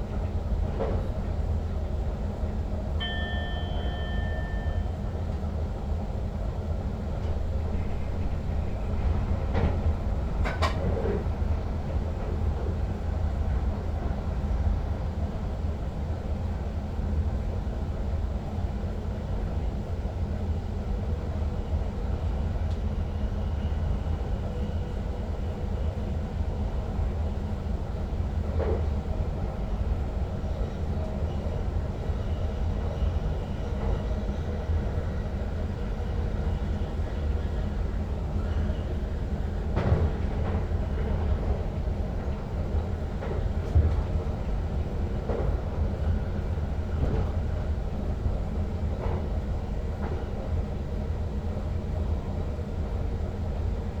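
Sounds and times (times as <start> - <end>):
electric train running rumble: 0.0 - 54.0.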